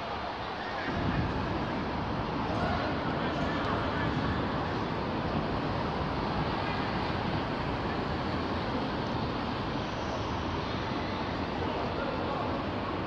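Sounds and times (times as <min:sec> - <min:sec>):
road traffic drone: 0:00.0 - 0:13.0.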